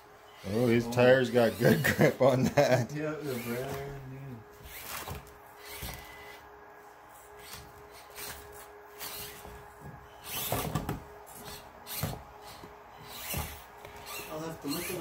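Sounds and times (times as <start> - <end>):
small electric motor whirring: 0.3 - 1.9, 3.2 - 6.4, 7.2 - 15.0.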